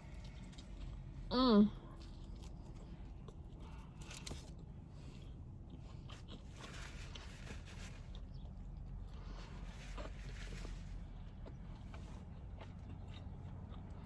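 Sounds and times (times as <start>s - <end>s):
low background rumble: 0.0s - 14.0s
person chewing: 2.0s - 14.0s.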